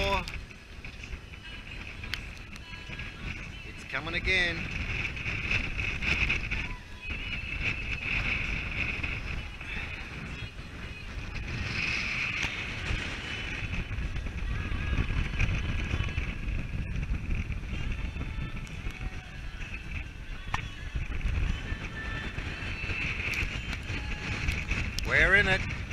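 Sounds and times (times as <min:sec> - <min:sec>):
wind buffeting the microphone: 0:00.0 - 0:25.9.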